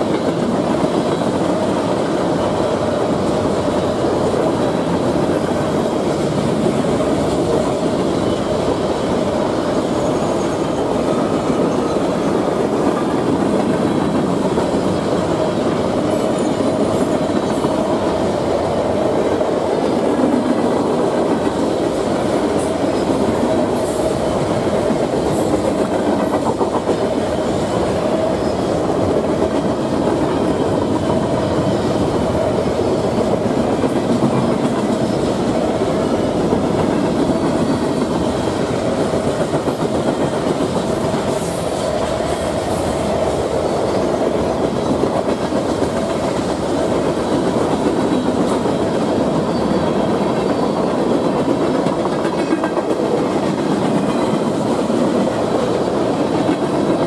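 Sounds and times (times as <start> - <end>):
freight train rolling past: 0.0 - 57.0
steel wheels clattering on rails: 0.0 - 57.0.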